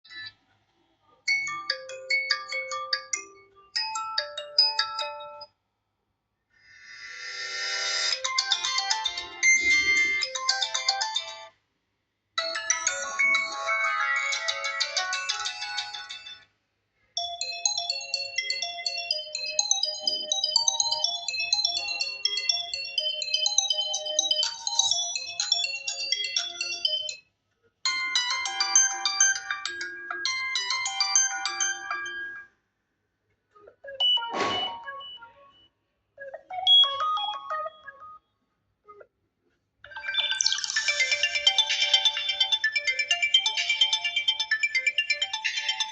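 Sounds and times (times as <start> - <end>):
phone ringtone melody: 1.3 - 5.5, 6.8 - 11.5, 12.4 - 16.5, 17.2 - 27.3, 27.9 - 32.6, 33.8 - 35.7, 36.3 - 38.2, 39.9 - 45.9.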